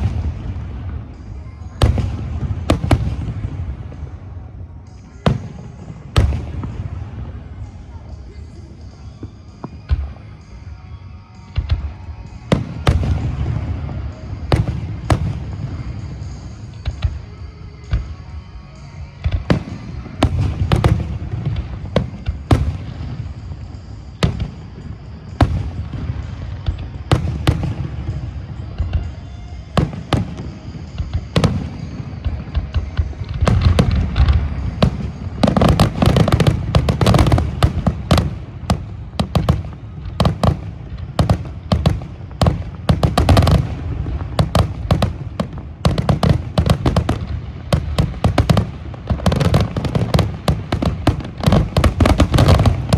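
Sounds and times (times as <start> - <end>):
fireworks bursts and bangs: 0.0 - 52.9.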